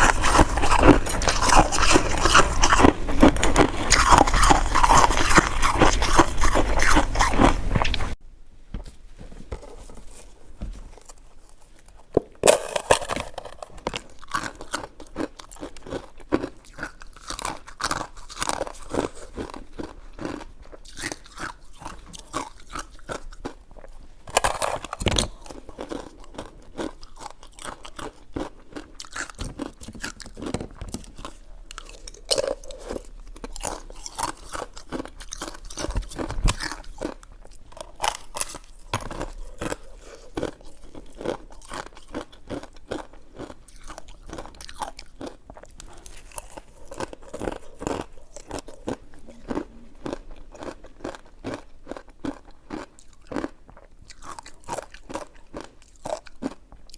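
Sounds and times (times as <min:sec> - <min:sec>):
chewing and mouth sounds: 0:00.0 - 0:08.2, 0:11.0 - 0:56.9.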